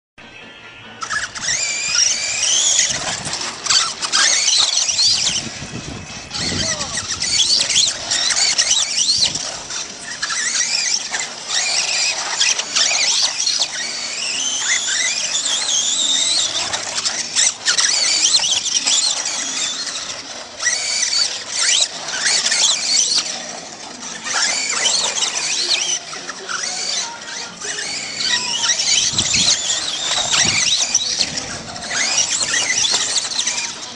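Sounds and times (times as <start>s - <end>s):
rc truck motors whining: 0.6s - 33.9s.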